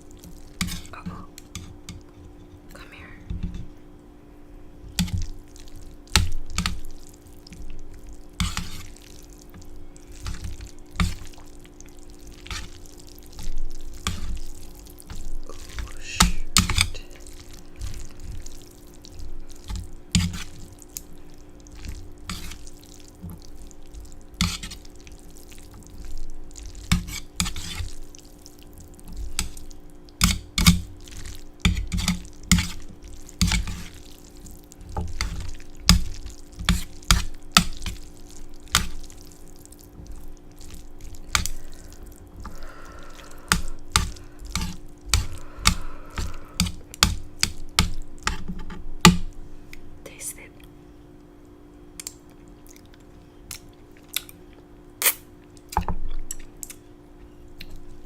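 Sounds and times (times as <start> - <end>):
faint steady hum: 0.0 - 58.0
wet chewing and mouth noises: 4.9 - 48.3, 51.4 - 58.0.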